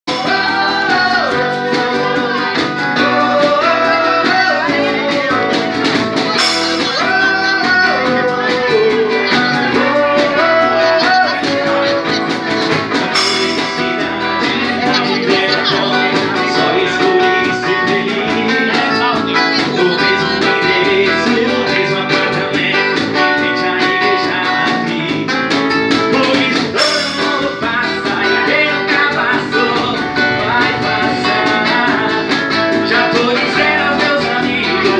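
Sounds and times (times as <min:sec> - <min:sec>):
acoustic guitar: 0:00.0 - 0:34.9
drum kit: 0:00.0 - 0:34.9
electronic keyboard: 0:00.1 - 0:34.9
man singing into a microphone: 0:00.1 - 0:34.9.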